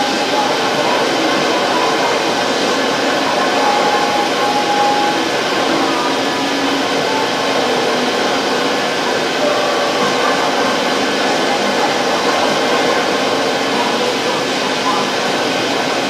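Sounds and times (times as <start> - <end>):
boiler blower loud rushing: 0.0 - 16.0.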